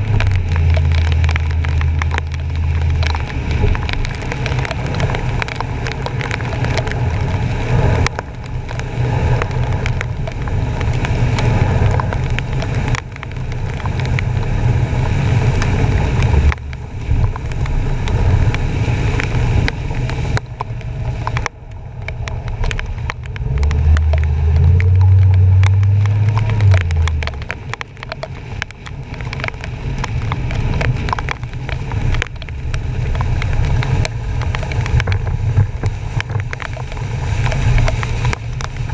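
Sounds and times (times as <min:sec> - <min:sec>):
truck low rumble: 0:00.0 - 0:38.9
water churning and splashing: 0:00.0 - 0:38.9.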